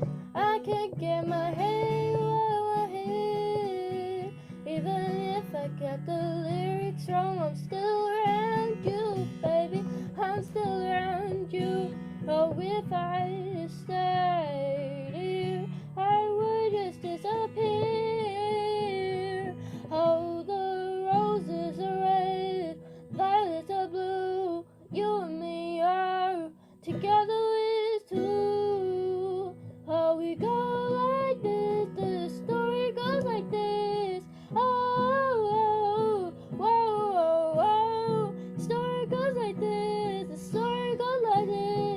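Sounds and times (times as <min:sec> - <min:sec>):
acoustic guitar: 0:00.0 - 0:41.9
woman singing: 0:00.0 - 0:41.9.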